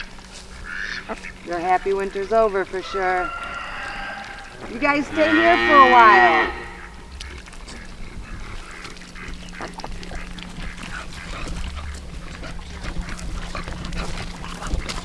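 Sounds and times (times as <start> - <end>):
ducks quacking: 0.0 - 15.0
water splashes: 0.0 - 15.0.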